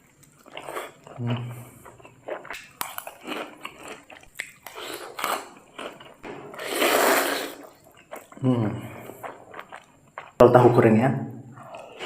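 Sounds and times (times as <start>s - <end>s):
person chewing food: 0.0s - 10.4s, 11.5s - 12.0s.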